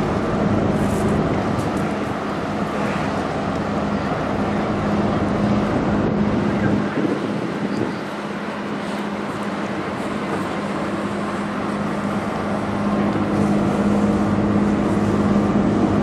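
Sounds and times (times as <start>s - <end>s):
motorboat hum: 0.0s - 16.0s
ship engine drone: 0.0s - 16.0s
water noise: 0.0s - 16.0s
wind: 0.0s - 16.0s.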